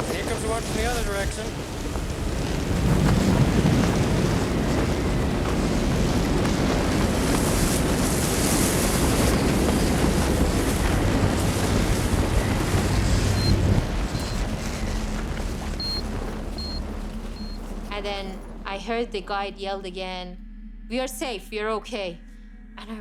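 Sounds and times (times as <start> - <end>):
wind and blown snow rushing: 0.0 - 18.7
wind buffeting microphone: 0.0 - 20.0.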